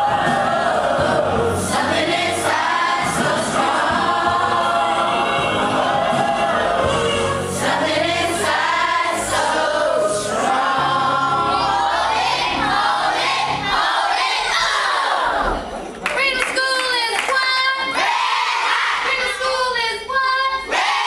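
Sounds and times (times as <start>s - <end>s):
group singing to music: 0.0s - 15.8s, 17.8s - 19.1s, 20.7s - 21.0s.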